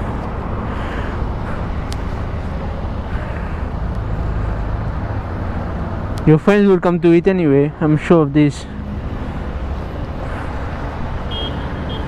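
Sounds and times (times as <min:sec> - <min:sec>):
distant traffic: 0:00.0 - 0:12.0.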